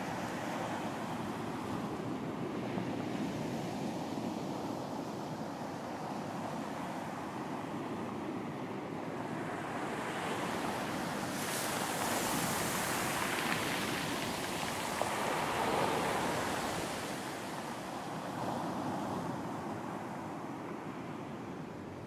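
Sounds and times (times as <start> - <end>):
ocean waves washing on beach: 0.0 - 22.0
rumble of surf: 0.0 - 22.0.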